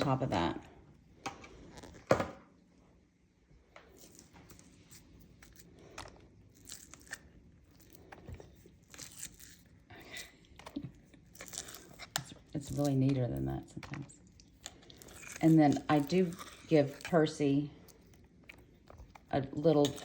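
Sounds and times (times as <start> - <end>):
spoon scraping dog food: 3.9 - 20.0.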